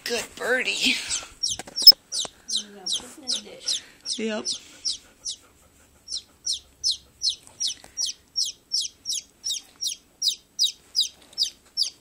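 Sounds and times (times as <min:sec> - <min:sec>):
baby chick peeping: 0:01.1 - 0:12.0.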